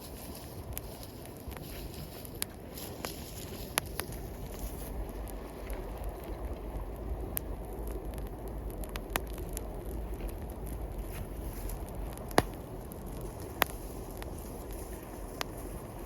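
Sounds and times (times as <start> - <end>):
bonfire crackling: 0.0 - 16.0
sharp pops of fire: 0.1 - 15.9.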